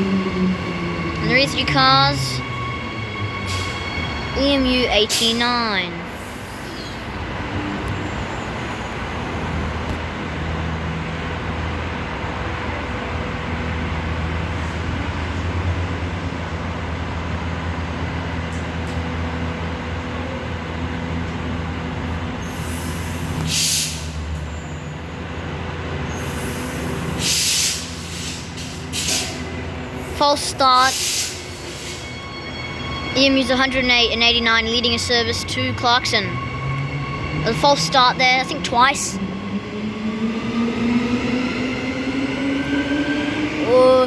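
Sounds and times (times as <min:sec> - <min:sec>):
electric train hum: 0:00.0 - 0:44.0.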